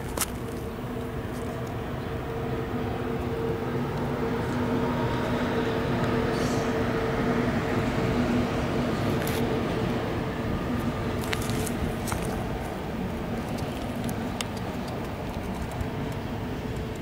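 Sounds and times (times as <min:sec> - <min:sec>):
passing vehicle rumble: 0:00.0 - 0:17.0.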